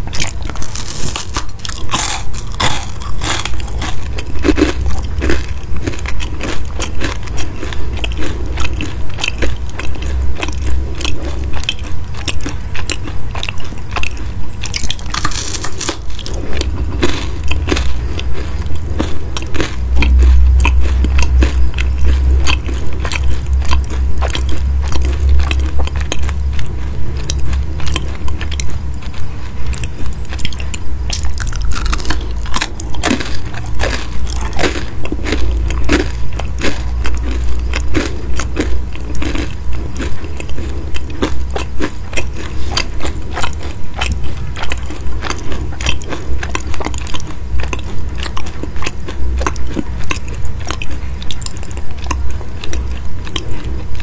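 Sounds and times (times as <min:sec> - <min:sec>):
crunchy pastry chewing: 0:00.0 - 0:54.0.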